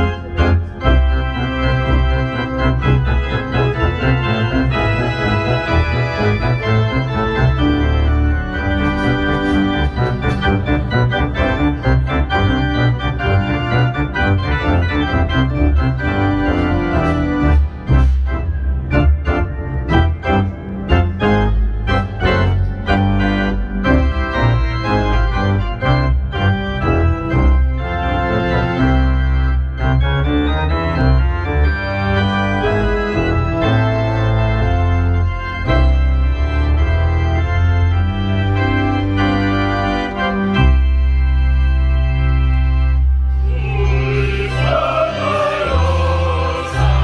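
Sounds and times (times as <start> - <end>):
organ chords: 0.0 - 47.0
organ pedal bass: 0.0 - 47.0.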